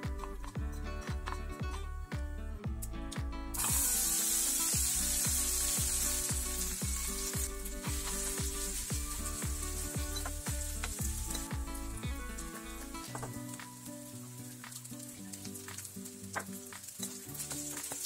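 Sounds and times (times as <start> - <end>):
background music with steady beat: 0.0 - 18.0
onions sizzling in hot oil: 3.5 - 18.0.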